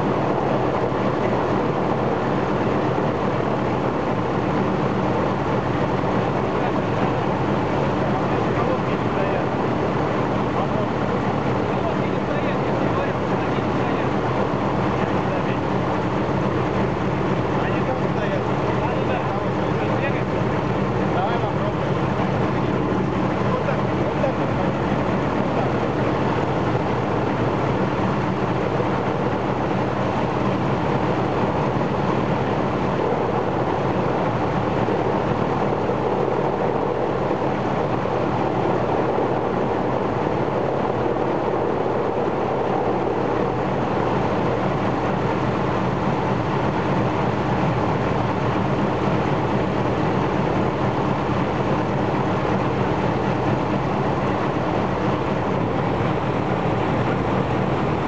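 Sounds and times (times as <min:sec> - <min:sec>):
radial piston engine and propeller: 0:00.0 - 0:58.0.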